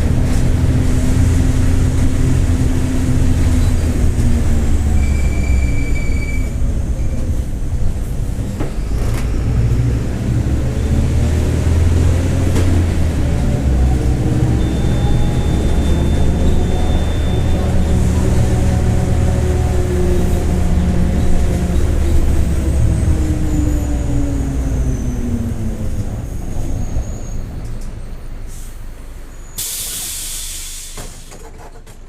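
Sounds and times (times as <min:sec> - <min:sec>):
bus diesel engine: 0:00.0 - 0:32.0.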